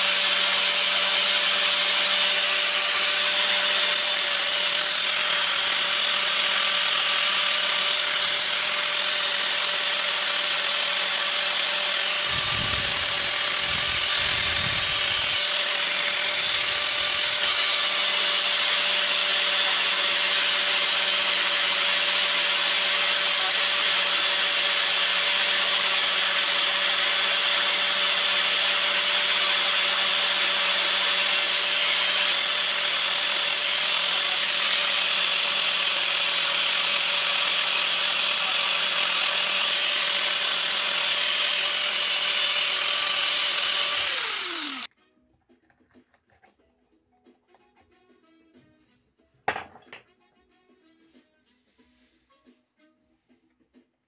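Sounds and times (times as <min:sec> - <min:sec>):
grinder sanding wood: 0:00.0 - 0:44.9.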